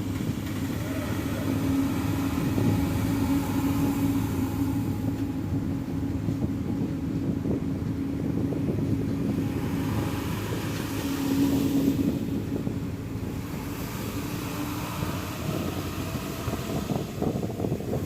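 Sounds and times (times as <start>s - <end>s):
bus engine and road rumble: 0.0s - 18.0s
steady hum: 0.0s - 18.0s.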